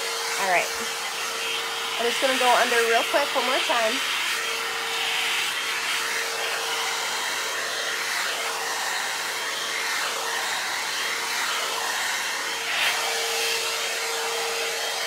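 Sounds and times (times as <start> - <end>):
hot-air brush blowing: 0.0 - 15.0.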